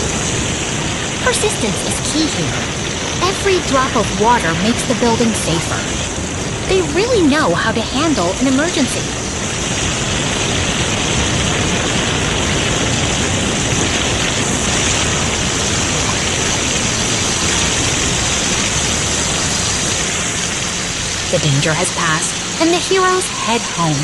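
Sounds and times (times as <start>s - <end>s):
fire hoses spraying water: 0.0s - 24.0s.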